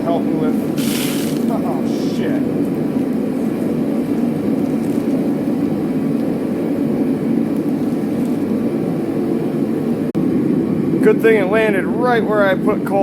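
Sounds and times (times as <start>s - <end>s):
forge roaring: 0.0s - 13.0s.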